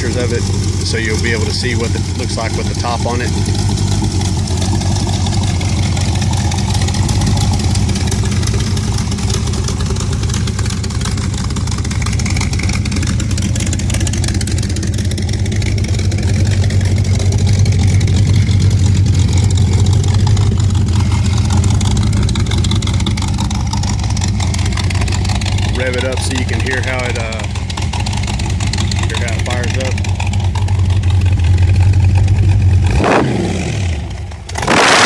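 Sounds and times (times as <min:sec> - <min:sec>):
car engine idling: 0:00.0 - 0:34.8.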